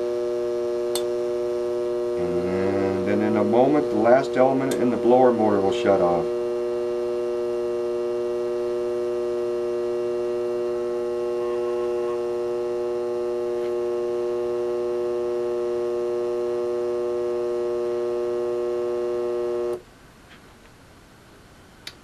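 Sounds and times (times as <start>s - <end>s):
furnace blower motor humming: 0.0s - 19.8s
mains hum: 0.0s - 22.0s.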